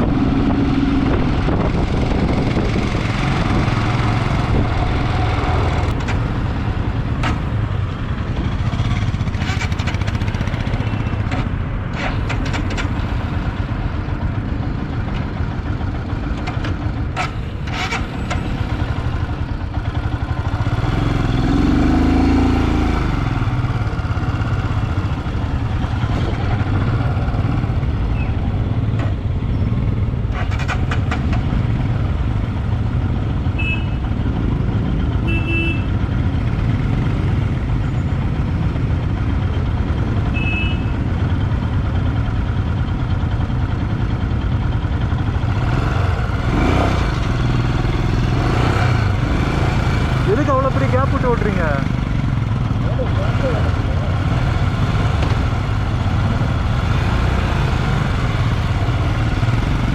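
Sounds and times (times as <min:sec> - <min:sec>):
motorcycle engine running: 0:00.0 - 0:59.9
passing vehicle: 0:00.0 - 0:59.9
road and wind noise: 0:00.0 - 0:59.9.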